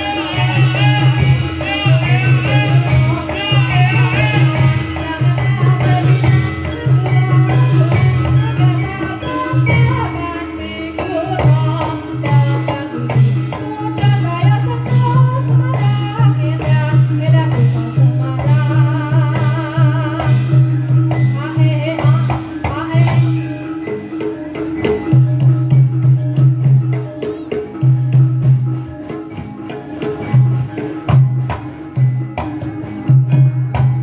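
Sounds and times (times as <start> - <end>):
drums and percussion beat: 0.0 - 34.0
wavering melody line: 0.0 - 34.0.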